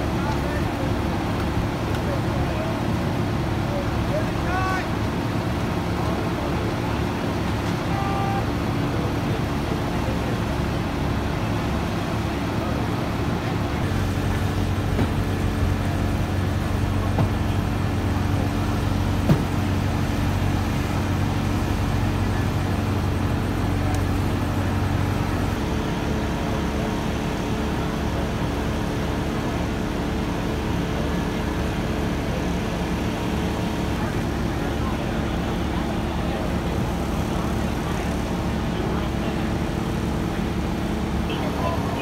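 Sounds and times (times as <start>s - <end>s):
diesel engine idling: 0.0s - 42.0s.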